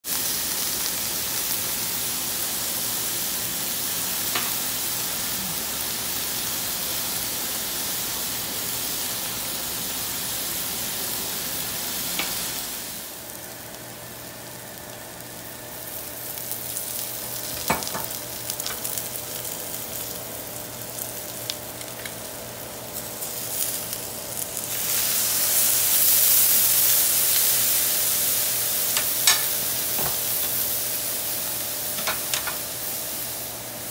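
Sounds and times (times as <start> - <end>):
loud hiss in hot pan: 0.0 - 13.6, 15.4 - 33.9
food sizzling in a skillet: 0.0 - 33.9.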